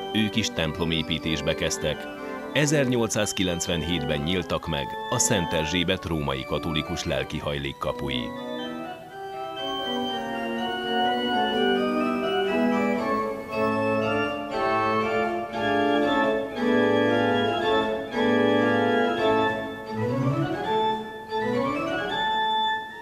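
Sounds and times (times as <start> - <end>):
organ playing slow chords: 0.0 - 23.0.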